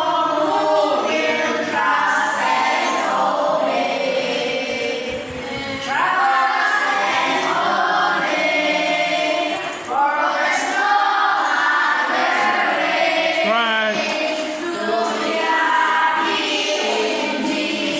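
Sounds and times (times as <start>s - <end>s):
group singing a hymn: 0.0s - 17.9s.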